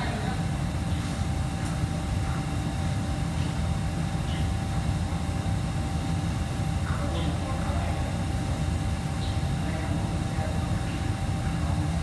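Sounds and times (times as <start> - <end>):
faint steady whine: 0.0 - 12.0
ventilation and machinery humming: 0.0 - 12.0.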